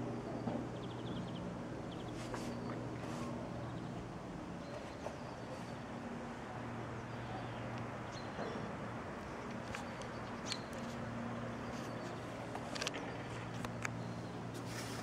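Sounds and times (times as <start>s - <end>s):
outdoor background noise: 0.0s - 15.0s
steady low hum: 0.0s - 15.0s.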